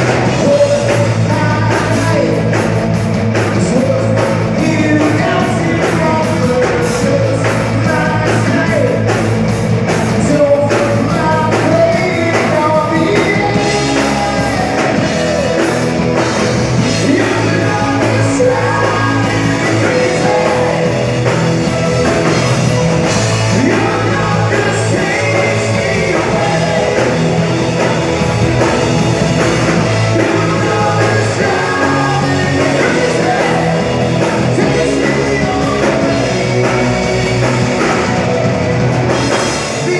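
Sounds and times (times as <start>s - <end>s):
person singing: 0.0s - 9.3s, 10.0s - 39.9s
drums: 0.0s - 39.9s
electric guitar: 0.0s - 39.9s.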